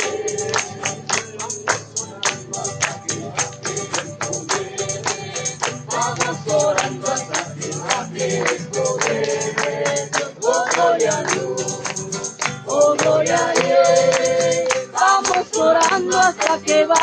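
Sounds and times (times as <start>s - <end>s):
tambourine beat: 0.0s - 17.0s
voices singing: 0.0s - 17.0s.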